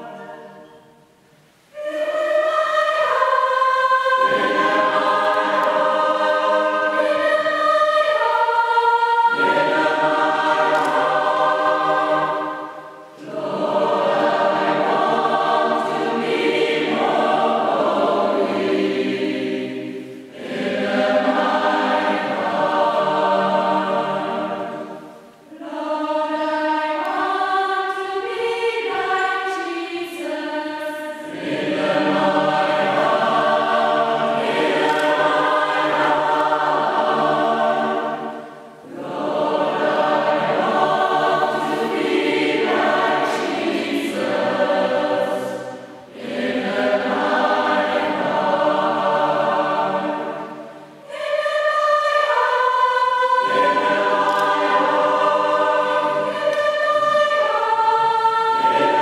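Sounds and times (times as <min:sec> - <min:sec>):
mixed choir singing: 0:00.0 - 0:59.0.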